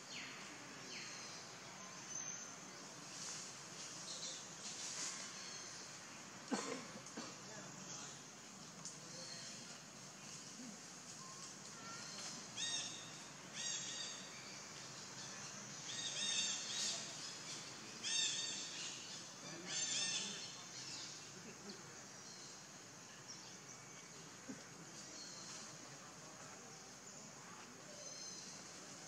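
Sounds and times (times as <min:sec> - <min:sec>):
forest ambience hiss: 0:00.0 - 0:29.0.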